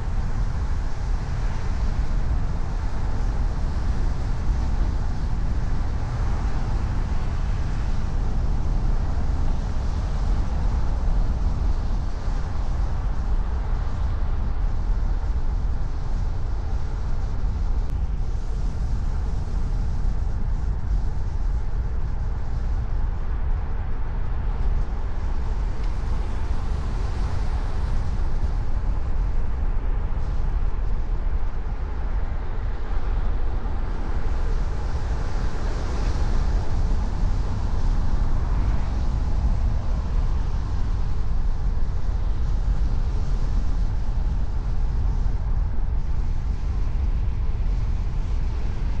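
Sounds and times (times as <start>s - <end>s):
car road and tyre noise: 0.0s - 49.0s.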